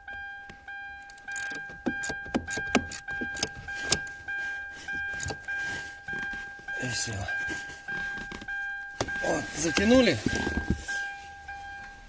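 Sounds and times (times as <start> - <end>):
car warning chime dinging: 0.0 - 12.0.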